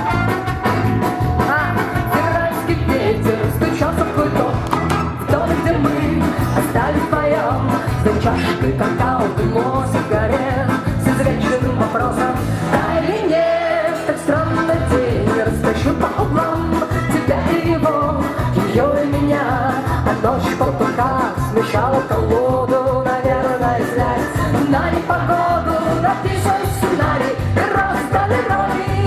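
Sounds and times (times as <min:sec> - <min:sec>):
drum and bass beat: 0:00.0 - 0:13.0, 0:14.4 - 0:29.0
live rock band playing: 0:00.0 - 0:13.1, 0:13.9 - 0:29.0
melodic lead line: 0:00.0 - 0:29.0.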